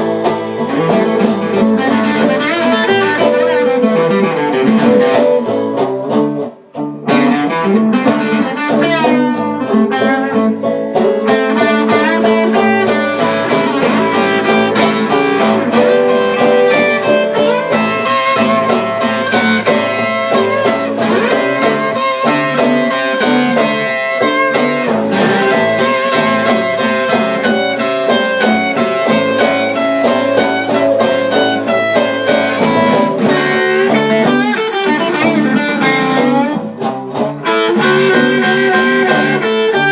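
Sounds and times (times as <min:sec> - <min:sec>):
blues band playing instrumental: 0:00.0 - 0:39.9.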